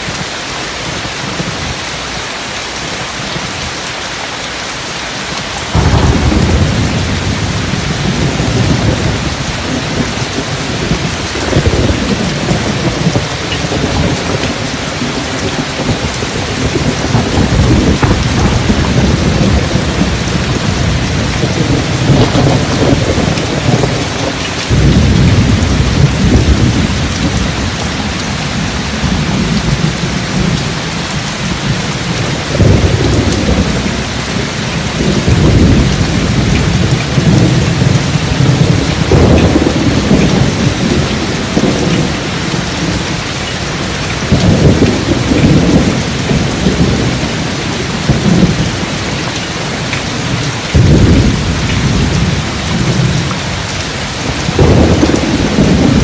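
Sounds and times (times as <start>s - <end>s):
steady rain: 0.0s - 56.0s
rolling thunder rumbles: 5.3s - 56.0s.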